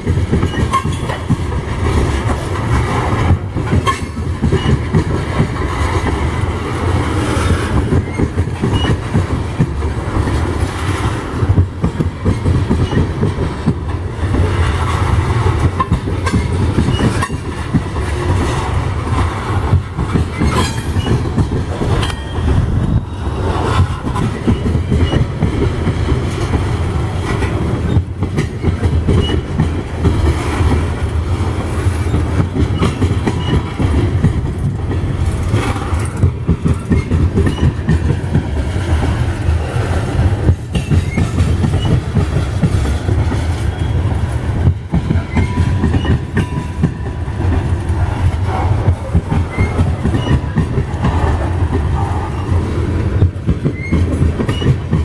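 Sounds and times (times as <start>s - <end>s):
train wheels rumbling on rail: 0.0s - 55.0s
wheels clacking over rail joints: 0.0s - 55.0s.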